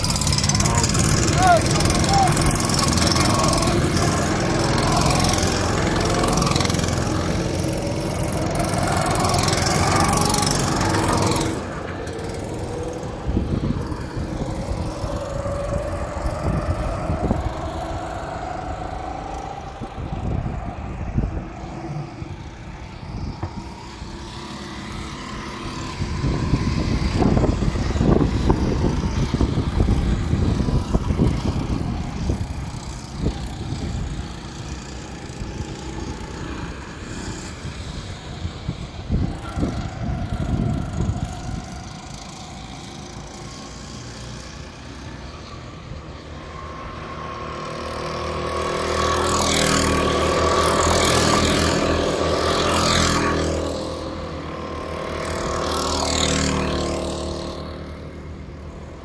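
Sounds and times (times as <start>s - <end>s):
distant karts on circuit: 0.0s - 59.0s
go-kart engines revving: 0.0s - 59.0s.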